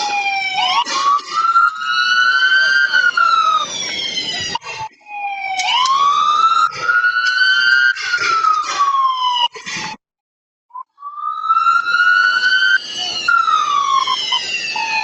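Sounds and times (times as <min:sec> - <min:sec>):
police car siren wailing: 0:00.0 - 0:10.0, 0:11.0 - 0:15.0.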